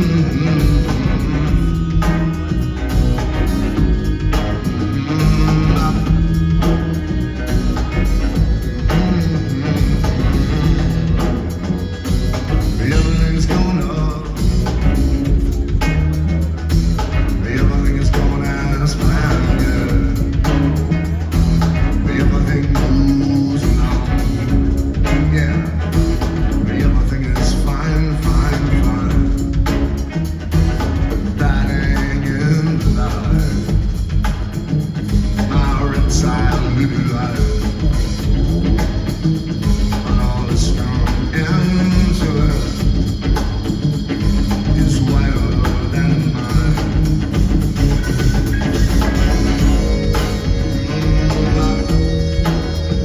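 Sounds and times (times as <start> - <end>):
live rock band: 0.0 - 53.0.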